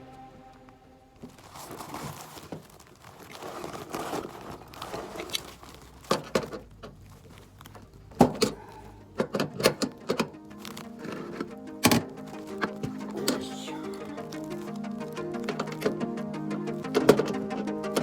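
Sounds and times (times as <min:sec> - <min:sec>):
material crinkling and rustling: 0:00.4 - 0:18.0.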